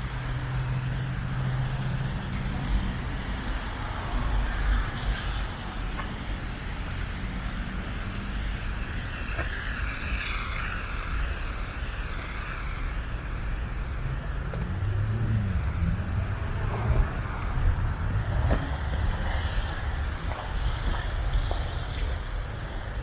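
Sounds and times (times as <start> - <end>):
vehicle engine and tyre noise: 0.0 - 23.0.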